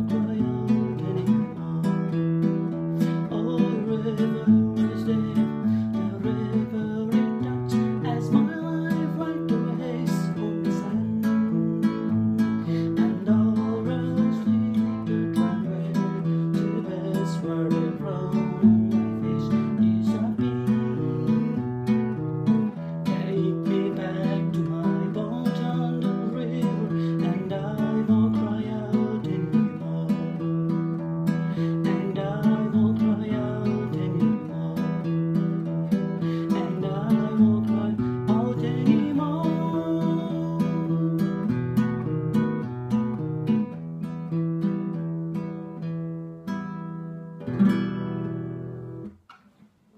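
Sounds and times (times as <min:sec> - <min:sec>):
acoustic guitar: 0:00.0 - 0:49.9.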